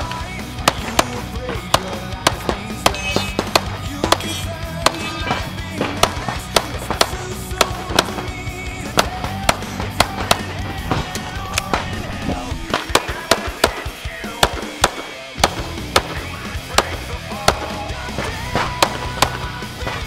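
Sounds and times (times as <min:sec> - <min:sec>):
background music: 0:00.0 - 0:20.0
pistol shots: 0:00.0 - 0:20.0.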